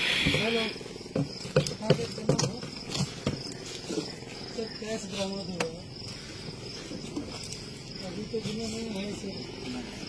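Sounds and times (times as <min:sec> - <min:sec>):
insect trill: 0:00.0 - 0:10.0.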